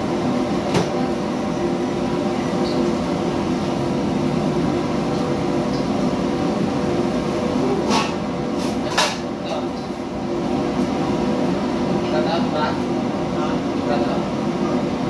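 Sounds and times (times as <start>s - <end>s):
extraction fan roaring: 0.0s - 15.0s
gas burners roaring: 0.0s - 15.0s.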